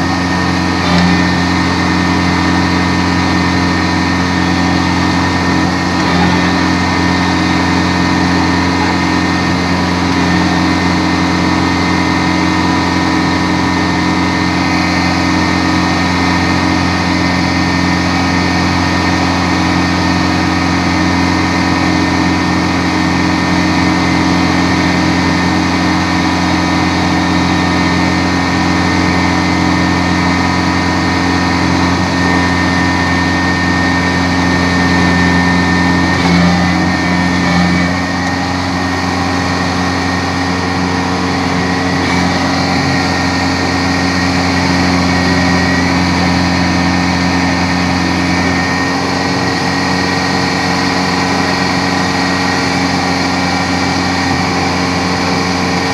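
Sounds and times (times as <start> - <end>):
combine harvester engine running: 0.0 - 55.9
thin steady whine: 0.0 - 55.9.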